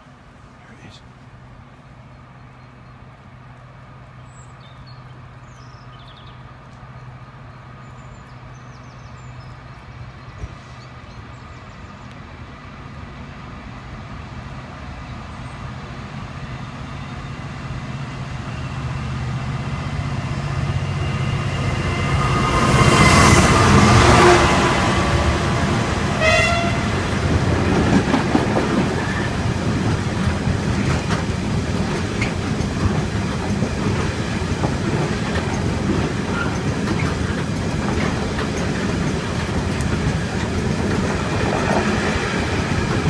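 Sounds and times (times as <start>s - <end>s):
diesel locomotive engine drone: 0.0s - 43.0s.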